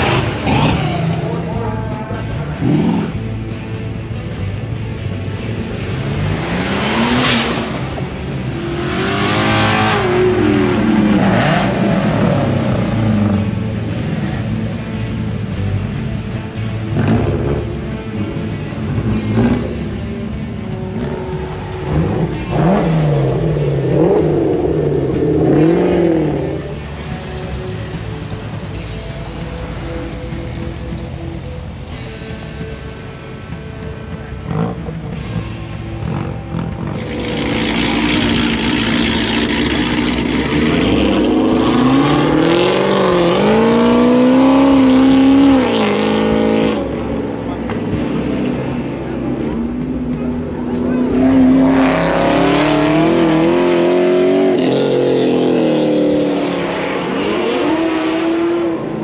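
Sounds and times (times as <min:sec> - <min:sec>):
car engine revving: 0:00.0 - 0:59.0
loud rush of noise: 0:00.0 - 0:59.0.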